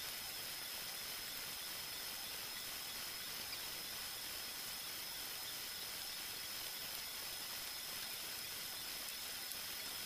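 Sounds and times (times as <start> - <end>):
faint high-pitched whine: 0.0 - 10.0
steady hiss: 0.0 - 10.0.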